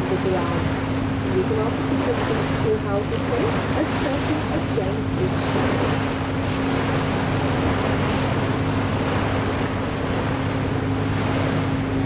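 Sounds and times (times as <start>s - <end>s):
boat engine humming: 0.0s - 12.0s
water washing along hull: 0.0s - 12.0s.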